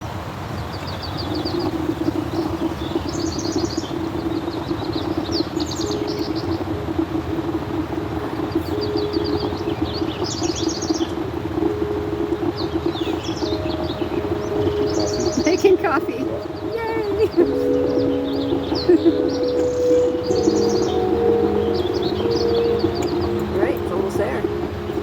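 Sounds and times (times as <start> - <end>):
birds chirping: 0.6 - 25.0.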